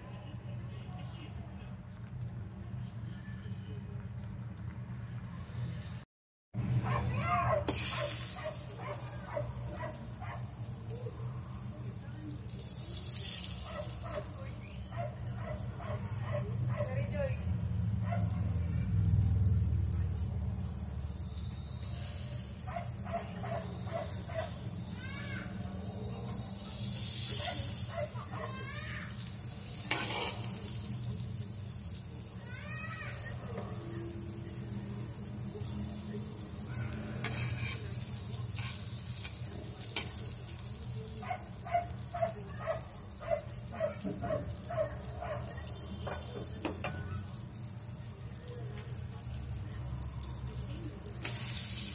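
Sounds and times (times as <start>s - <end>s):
butter sizzling in a pan: 7.7s - 16.7s, 17.4s - 51.9s.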